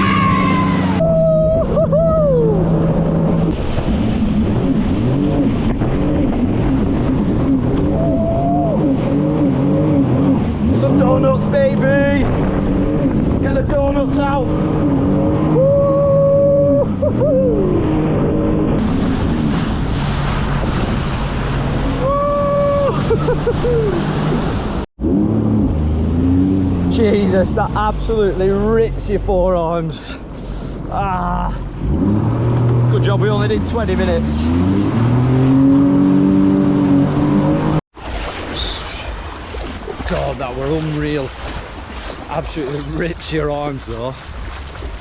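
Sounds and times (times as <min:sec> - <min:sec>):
jet ski engine revving: 0:00.0 - 0:29.5, 0:30.2 - 0:37.8
rushing wind: 0:00.0 - 0:45.0
water noise: 0:00.0 - 0:45.0.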